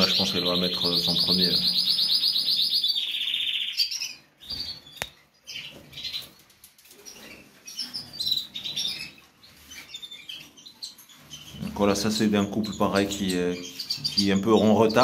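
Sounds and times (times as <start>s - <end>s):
canaries chirping: 0.0s - 15.0s.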